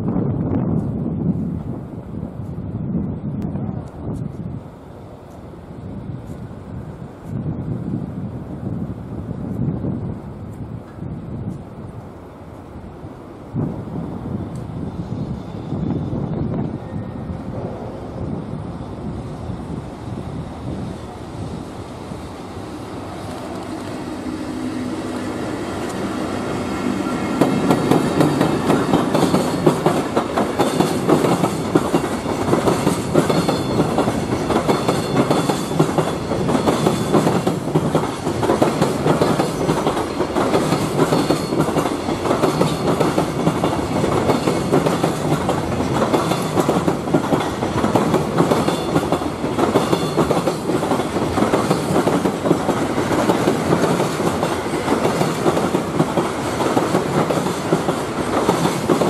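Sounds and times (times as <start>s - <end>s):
electric locomotive passing: 0.0s - 59.0s.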